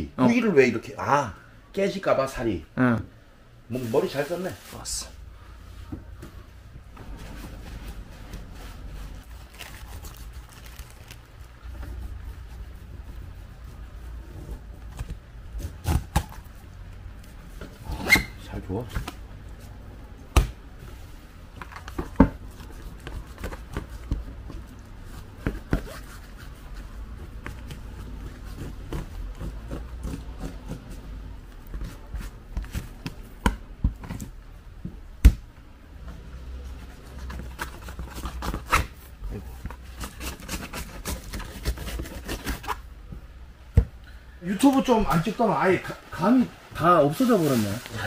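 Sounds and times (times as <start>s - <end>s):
handling and rubbing sounds: 3.7s - 20.1s, 20.7s - 35.0s, 35.9s - 43.4s, 44.5s - 48.0s.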